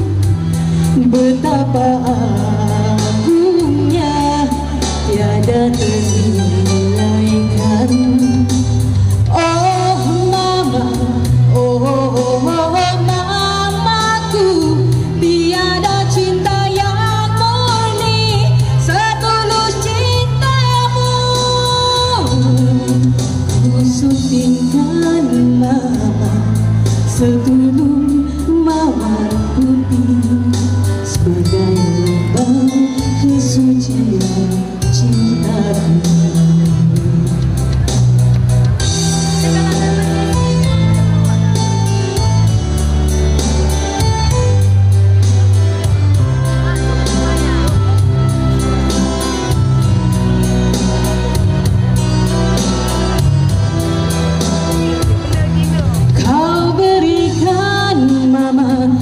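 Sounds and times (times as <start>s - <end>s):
woman singing into microphone: 0.0s - 38.0s, 45.8s - 59.0s
backing music with steady beat: 0.0s - 59.0s.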